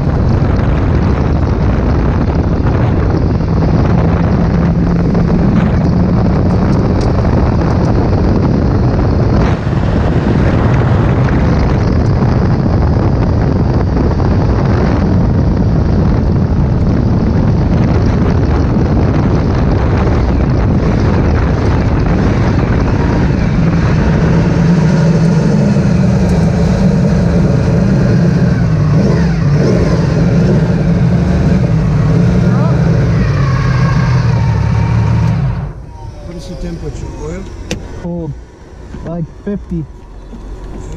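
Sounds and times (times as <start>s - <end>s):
race car engine running: 0.0s - 40.9s
wind buffeting microphone: 0.0s - 40.9s.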